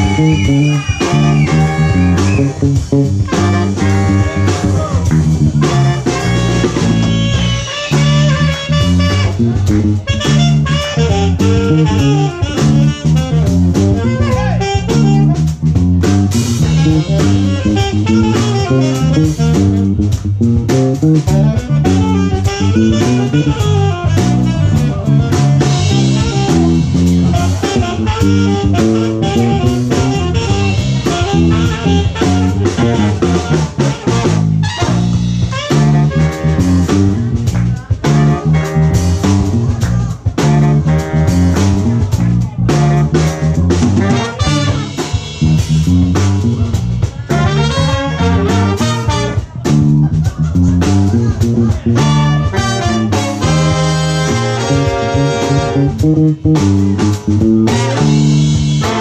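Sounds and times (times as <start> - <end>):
bass lines: 0.0 - 59.0
drum kit: 0.0 - 59.0
plucked guitar: 0.0 - 59.0.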